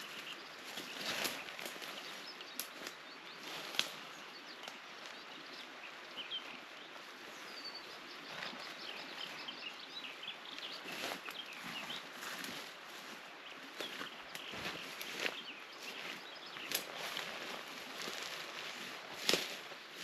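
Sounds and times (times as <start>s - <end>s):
birds chirping and trilling: 0.0s - 18.9s
steady outdoor hiss: 0.0s - 20.0s.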